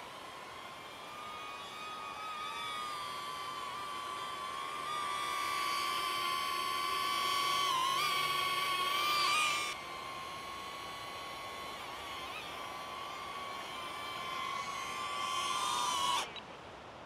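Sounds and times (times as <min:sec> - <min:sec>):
drone propellers whining: 0:00.0 - 0:16.5.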